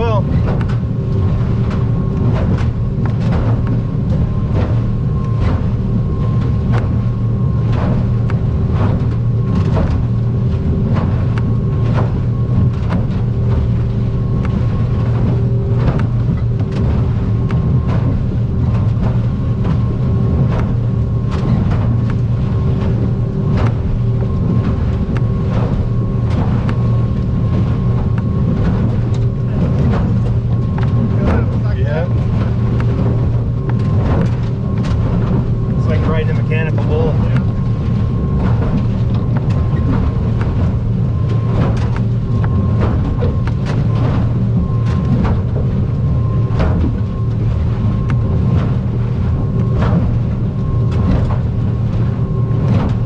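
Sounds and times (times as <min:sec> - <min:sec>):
hull slapping waves: 0:00.0 - 0:53.0
outboard engine drone: 0:00.0 - 0:53.0.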